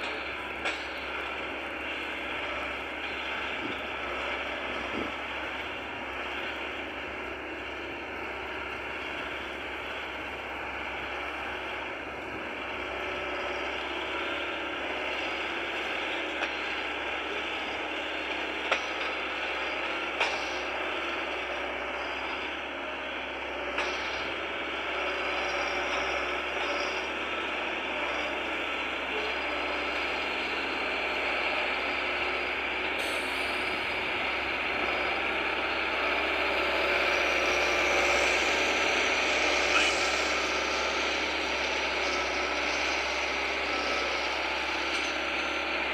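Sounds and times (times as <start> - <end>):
loader engine running: 0.0 - 45.9.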